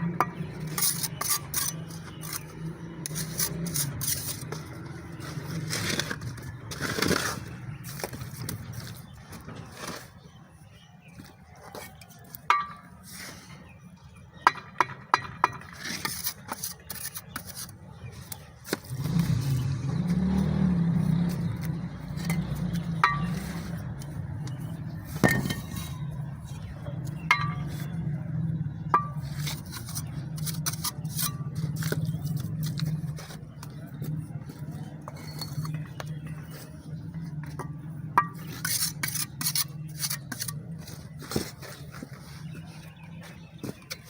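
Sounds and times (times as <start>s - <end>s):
trowel clinking against bricks: 0.1s - 9.0s, 11.6s - 13.3s, 14.5s - 20.1s, 21.1s - 28.0s, 28.8s - 43.0s, 43.6s - 44.0s
trowel scraping mortar: 0.3s - 13.7s, 15.5s - 28.0s, 29.0s - 44.0s.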